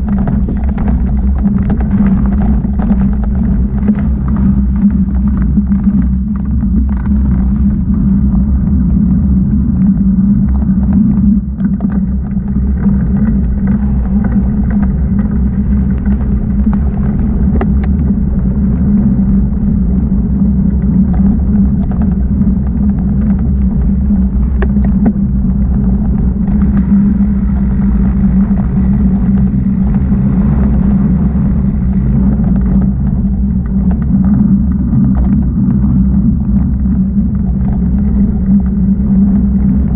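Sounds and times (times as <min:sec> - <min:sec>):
bike clicks and rattles: 0:00.0 - 0:39.9
mountain bike rolling on dirt: 0:00.0 - 0:39.9.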